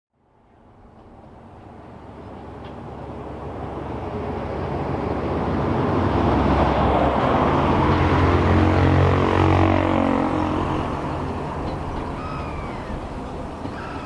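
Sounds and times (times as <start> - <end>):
train running noise: 0.6 - 14.0
low engine drone: 0.7 - 14.0.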